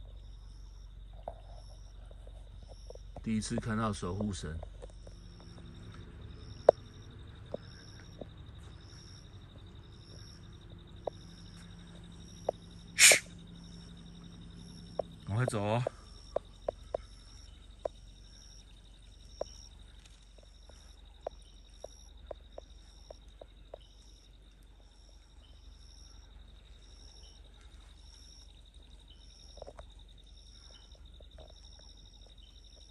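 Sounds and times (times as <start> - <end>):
low hum: 0.0 - 32.5
insect chirping: 0.0 - 32.9
insect high trill: 0.3 - 27.4.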